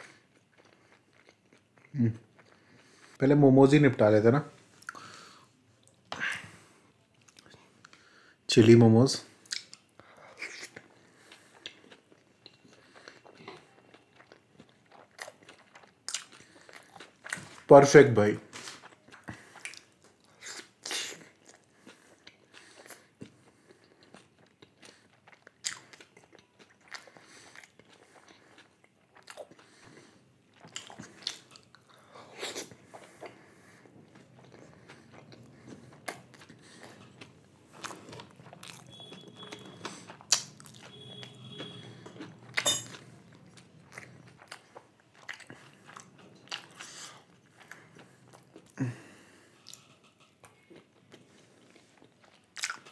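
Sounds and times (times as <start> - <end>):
person chewing food: 0.0 - 3.2, 4.8 - 8.1, 9.4 - 17.7, 18.6 - 52.9.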